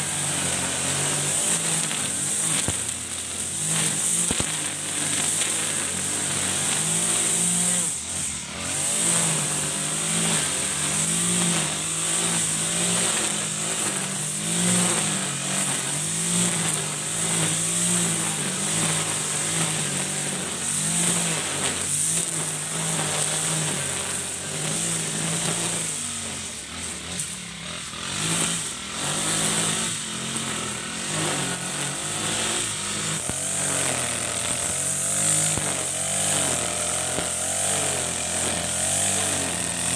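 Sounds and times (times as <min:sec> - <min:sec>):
brush cutter engine running: 0:00.0 - 0:39.9
nylon line cutting grass: 0:00.0 - 0:39.9.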